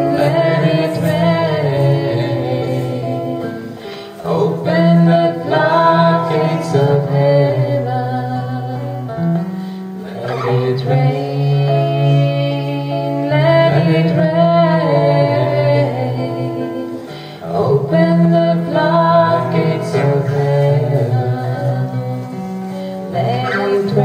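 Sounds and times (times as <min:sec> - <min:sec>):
plucked acoustic guitar: 0:00.0 - 0:24.0
slow devotional singing: 0:00.0 - 0:24.0.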